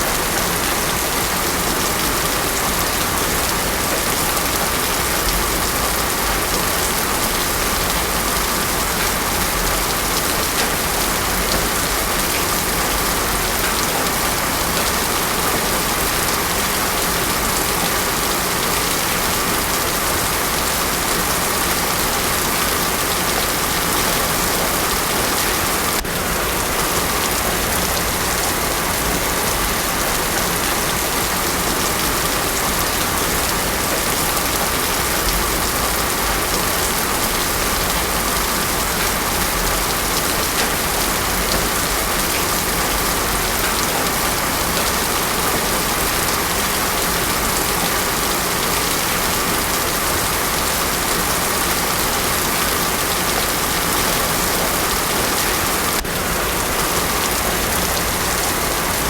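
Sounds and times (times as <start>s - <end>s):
heavy rain on a road: 0.0s - 59.0s.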